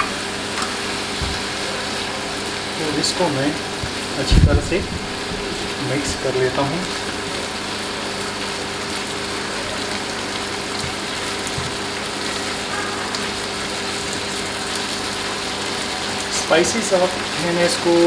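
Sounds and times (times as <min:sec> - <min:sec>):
prawns sizzling in oil: 0:00.0 - 0:18.0.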